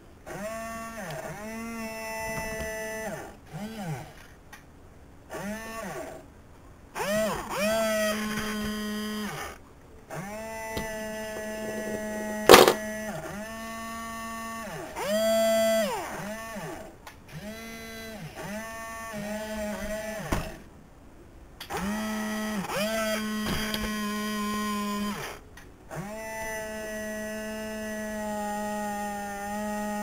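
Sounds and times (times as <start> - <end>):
small electric motors whining: 0.2 - 4.3, 5.3 - 6.2, 6.9 - 12.6, 13.2 - 20.4, 21.7 - 30.0.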